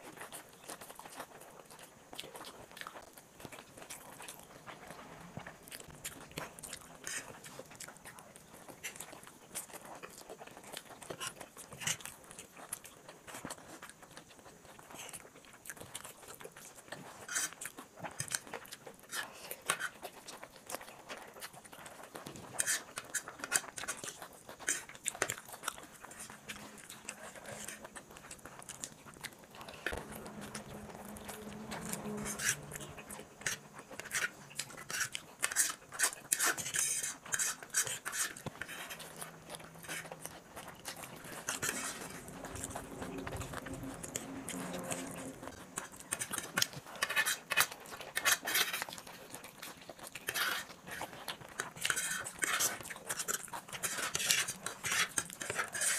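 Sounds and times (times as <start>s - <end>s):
chewing with wet mouth clicks: 0.0s - 55.9s.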